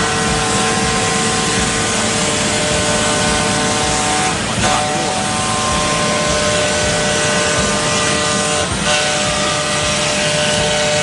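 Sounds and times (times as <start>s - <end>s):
wood router whining: 0.0s - 11.0s.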